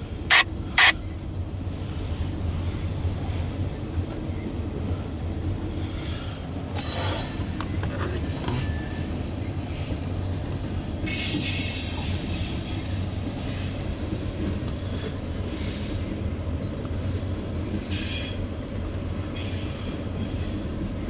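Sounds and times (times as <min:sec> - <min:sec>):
train cars rumbling past: 0:00.0 - 0:21.0.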